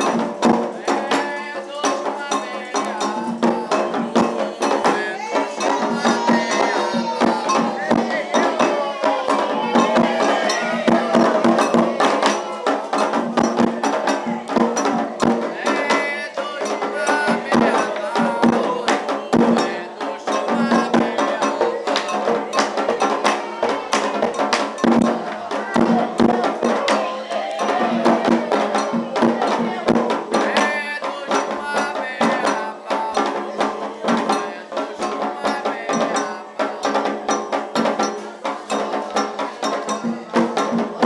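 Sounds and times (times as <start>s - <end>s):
chanted singing: 0.0s - 41.0s
drums and percussion: 0.0s - 41.0s.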